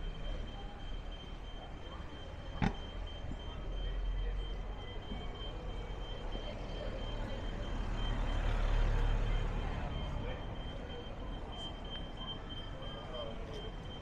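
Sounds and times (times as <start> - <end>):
thin steady high tone: 0.0 - 14.0.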